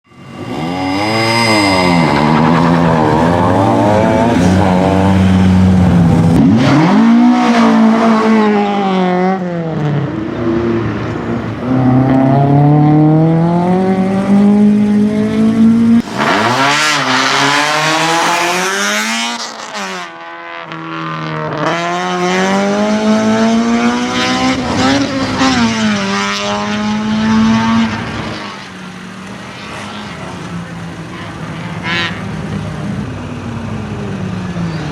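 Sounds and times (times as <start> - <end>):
racing car engine at full throttle: 0.0 - 34.9.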